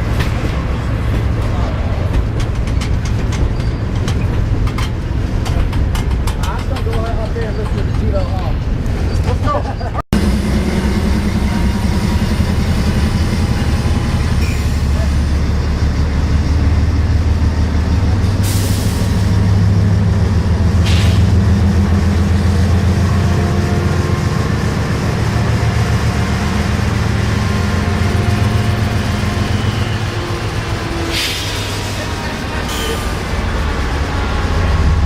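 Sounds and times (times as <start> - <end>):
diesel locomotive rumbling: 0.0 - 35.0.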